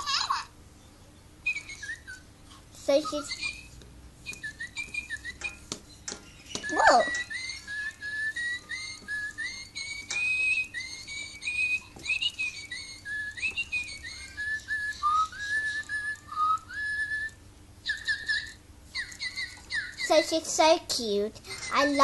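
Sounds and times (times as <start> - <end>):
toy bird chirping whistles: 1.4 - 2.3, 2.9 - 20.3, 21.5 - 22.0.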